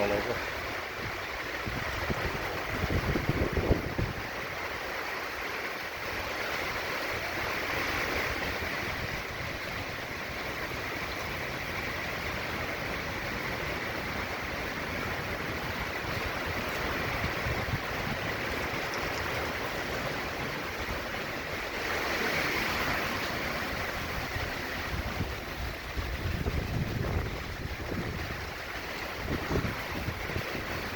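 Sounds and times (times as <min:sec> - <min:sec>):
driving rain: 0:00.0 - 0:30.9
hurricane wind: 0:00.0 - 0:30.9.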